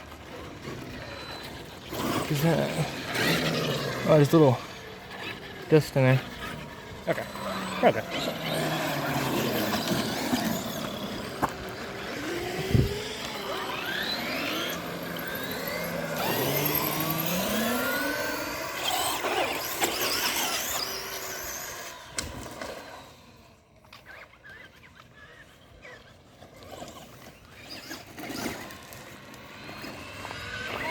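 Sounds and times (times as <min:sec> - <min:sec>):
electric toy car motors whining: 0:00.0 - 0:30.9.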